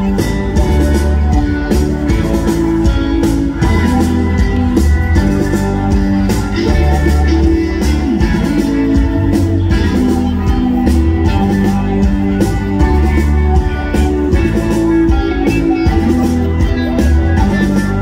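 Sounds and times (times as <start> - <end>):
drum kit: 0.0 - 18.0
electric guitar: 0.0 - 18.0
heavy bass line: 0.0 - 18.0.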